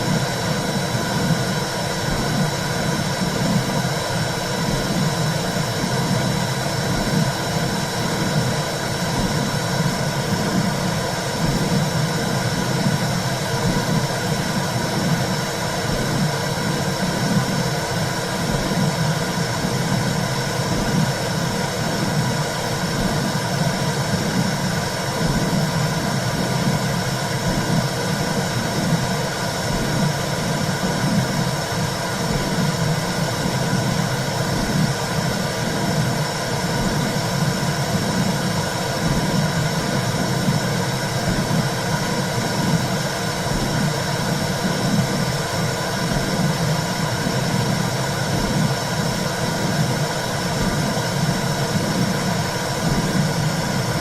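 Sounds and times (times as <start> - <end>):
low heartbeat pulse: 0.0 - 54.0.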